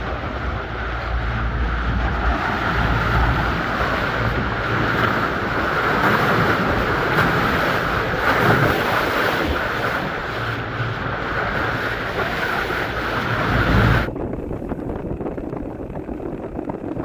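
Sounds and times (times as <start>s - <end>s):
rough water splashing: 0.0s - 17.0s
steady low rumble: 0.0s - 17.0s
wind buffeting microphone: 0.0s - 17.0s.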